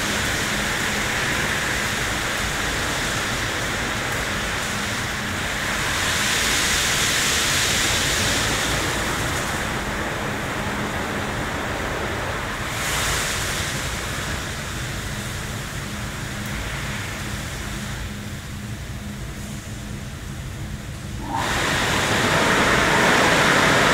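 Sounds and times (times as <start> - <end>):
car wash brushes and spray rushing: 0.0 - 17.8, 20.9 - 23.9
low machine hum: 0.0 - 23.9.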